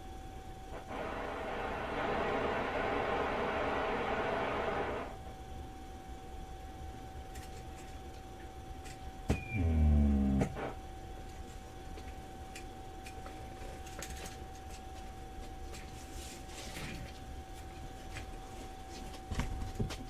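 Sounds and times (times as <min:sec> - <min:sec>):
low buzzing hum: 0:00.0 - 0:20.0.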